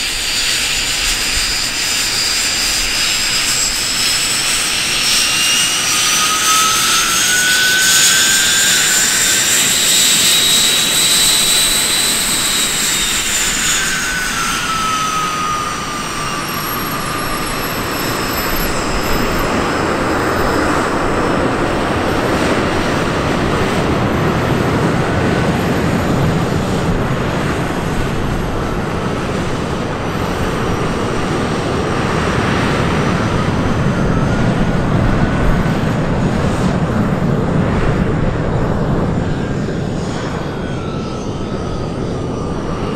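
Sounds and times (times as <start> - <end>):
jet exhaust roar: 0.0 - 42.9
turbojet whine: 0.0 - 42.9.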